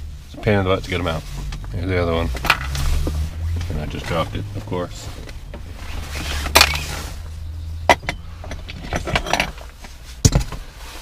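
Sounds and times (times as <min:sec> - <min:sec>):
rustle: 0:00.0 - 0:11.0.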